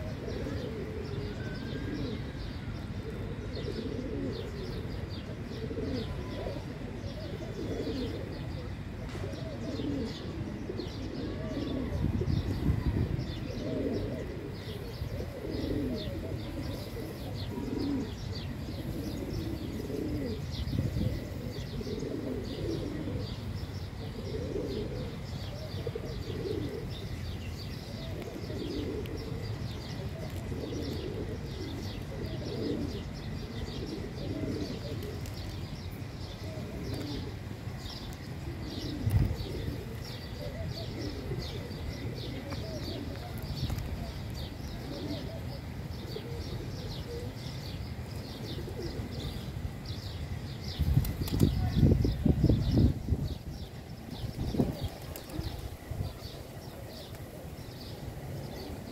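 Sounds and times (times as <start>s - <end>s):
pigeons cooing: 0.0s - 58.9s
small birds chirping: 0.0s - 58.9s.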